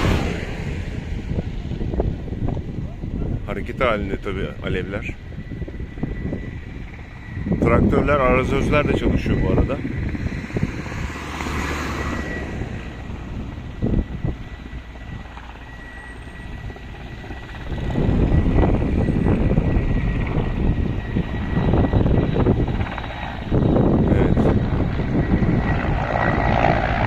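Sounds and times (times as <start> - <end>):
helicopter rotor rumble: 0.0 - 27.0.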